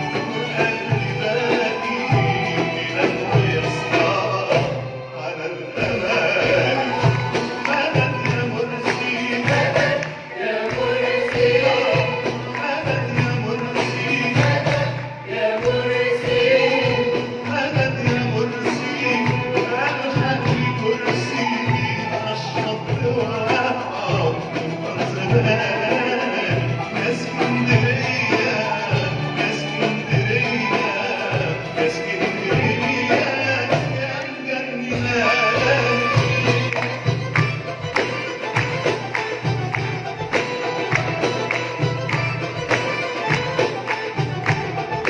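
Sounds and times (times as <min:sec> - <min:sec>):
man singing: 0:00.0 - 0:45.0
oud: 0:00.0 - 0:45.0
strings: 0:00.0 - 0:45.0.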